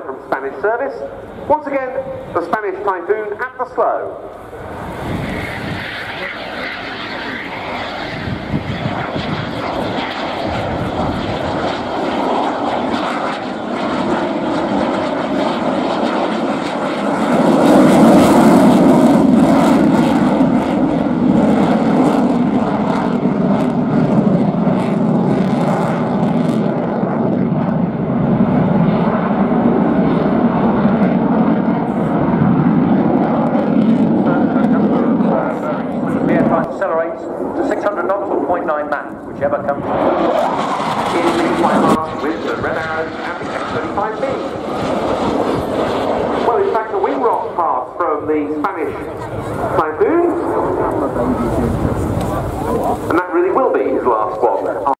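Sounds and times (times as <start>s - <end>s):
jet engines roaring: 0.0s - 54.9s.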